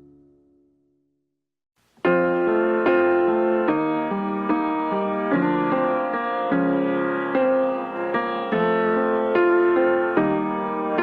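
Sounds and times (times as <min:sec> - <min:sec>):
keyboard chords: 0:02.0 - 0:11.0.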